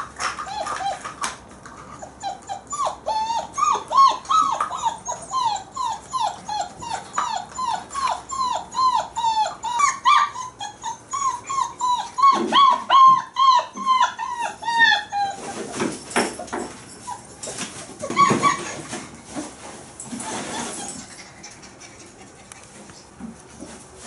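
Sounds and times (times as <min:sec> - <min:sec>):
puppies whining and yelping: 0:00.0 - 0:19.3, 0:20.0 - 0:23.1.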